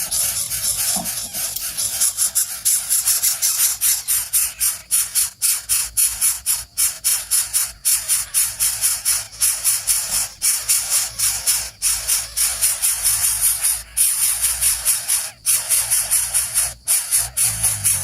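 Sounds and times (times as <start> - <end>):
insects pulsing buzz: 0.0 - 18.0.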